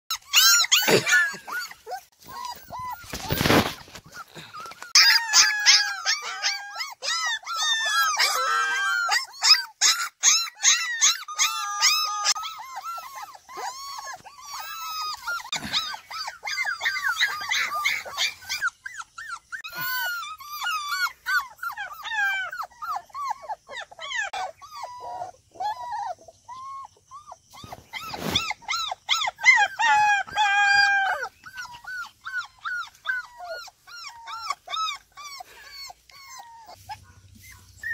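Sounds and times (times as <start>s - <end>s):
puppies whining and yelping: 0.1s - 37.9s.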